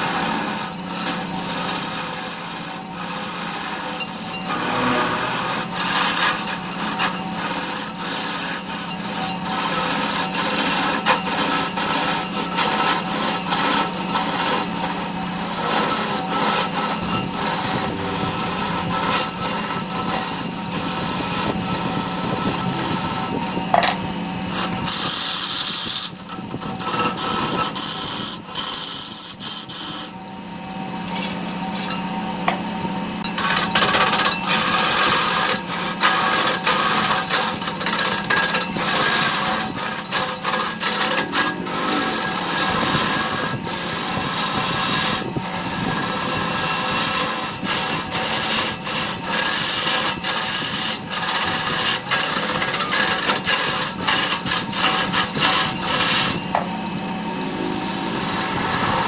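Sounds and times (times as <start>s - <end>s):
cutting tool scraping wood: 0.0s - 59.0s
wood lathe motor hum: 0.0s - 59.0s.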